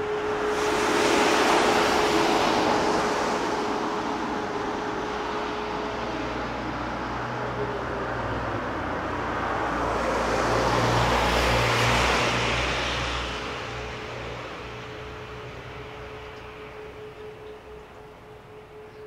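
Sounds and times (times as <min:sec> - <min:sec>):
vehicle passing by: 0:00.0 - 0:17.4
distant siren: 0:00.0 - 0:19.0.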